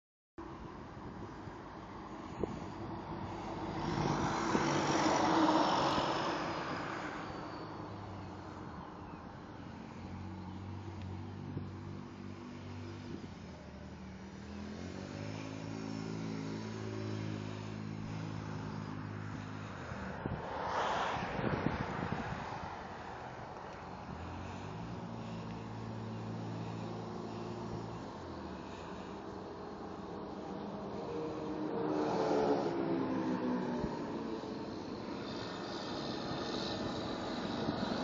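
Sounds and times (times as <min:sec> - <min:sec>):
vehicle engine droning: 0:01.0 - 0:38.0
vehicle passing: 0:01.8 - 0:08.8, 0:09.6 - 0:38.0.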